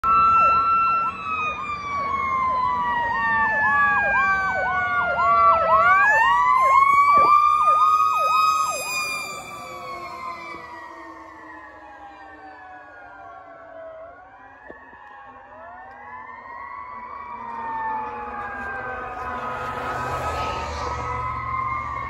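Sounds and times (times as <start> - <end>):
electronic yelp siren: 0.0 - 22.0
wailing siren: 0.0 - 22.0.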